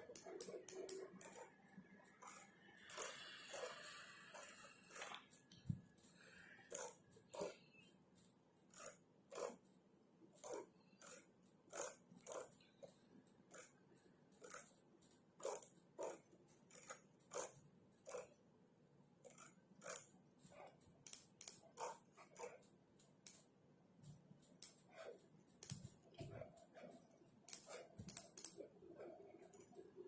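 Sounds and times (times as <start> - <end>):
computer keyboard typing: 0.0 - 18.5, 19.2 - 30.0.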